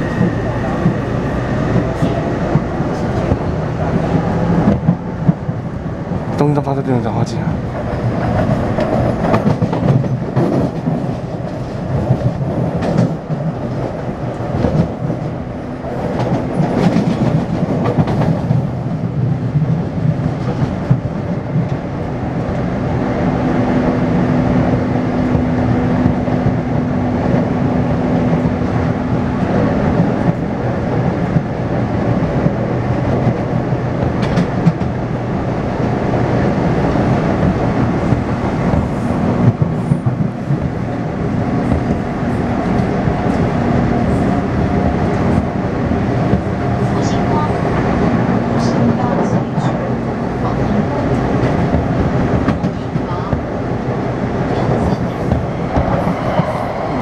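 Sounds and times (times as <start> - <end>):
train rail rumble: 0.0 - 57.0.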